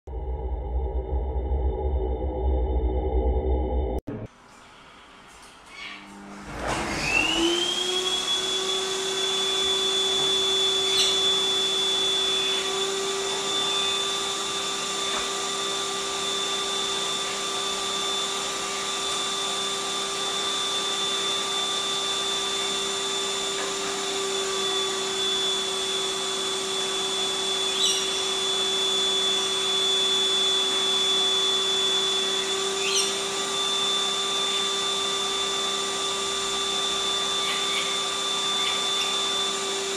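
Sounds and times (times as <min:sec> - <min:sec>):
vacuum cleaner motor whine: 0:05.7 - 0:39.9.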